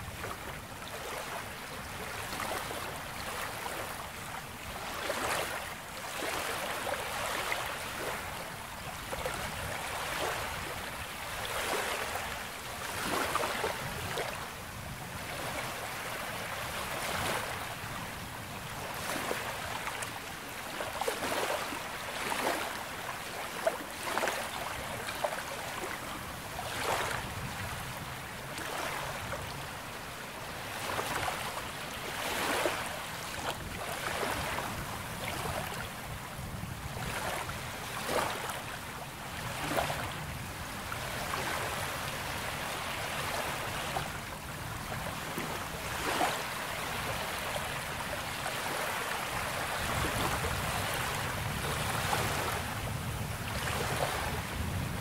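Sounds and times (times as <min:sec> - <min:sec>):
sea waves washing on shore: 0:00.0 - 0:55.0.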